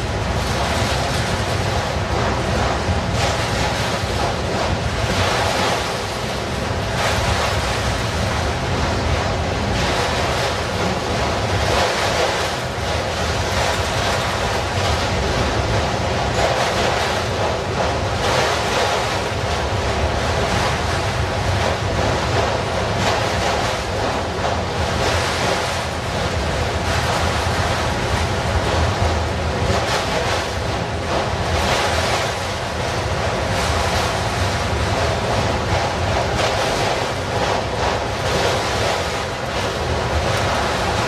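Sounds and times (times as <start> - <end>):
steel train wheels on rails: 0.0 - 41.0.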